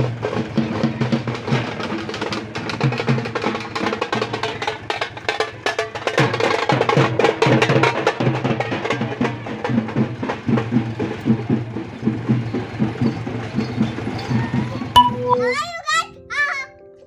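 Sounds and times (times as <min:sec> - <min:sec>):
marching drums beating: 0:00.0 - 0:15.6.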